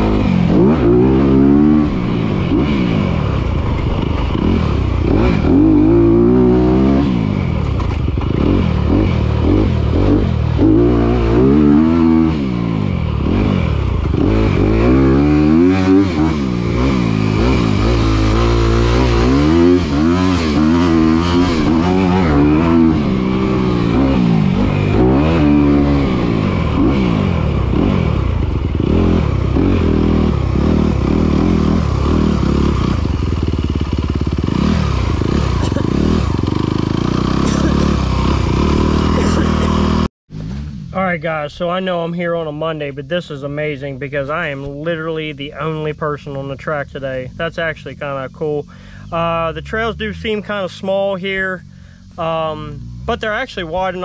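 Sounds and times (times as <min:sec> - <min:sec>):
dirt bike engine revving: 0:00.0 - 0:42.8, 0:43.7 - 0:54.0.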